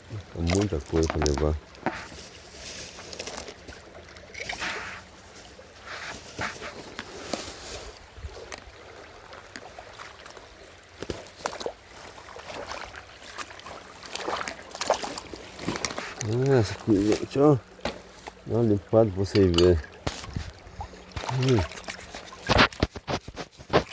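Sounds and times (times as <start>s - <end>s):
water splashing in a stream: 0.0s - 23.9s.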